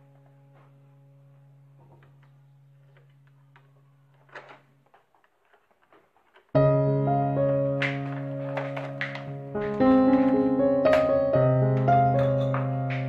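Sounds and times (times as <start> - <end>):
piano-like keyboard music: 0.0 - 4.5, 6.5 - 13.0.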